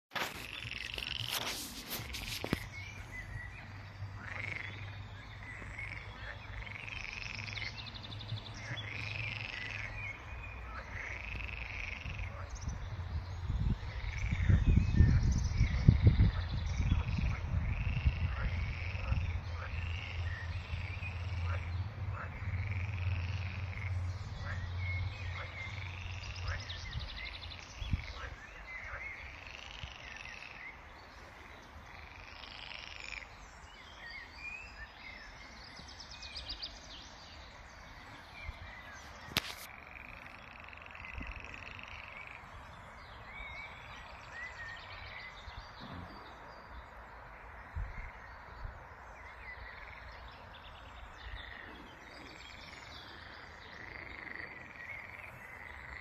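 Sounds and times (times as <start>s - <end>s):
frogs croaking and trilling: 0.2s - 56.0s.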